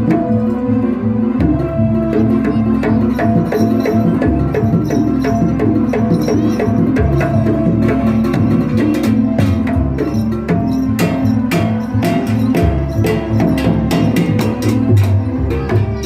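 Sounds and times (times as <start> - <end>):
hand drums beating: 1.4 - 16.0
struck metal percussion: 1.4 - 16.0
held melodic tones: 1.6 - 16.0.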